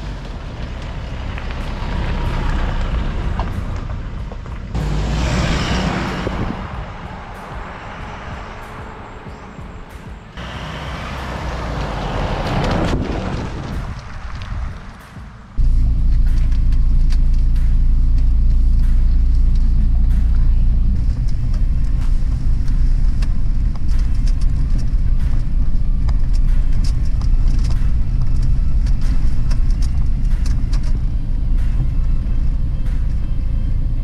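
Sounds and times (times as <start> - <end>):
car driving over gravel road: 0.0 - 34.0.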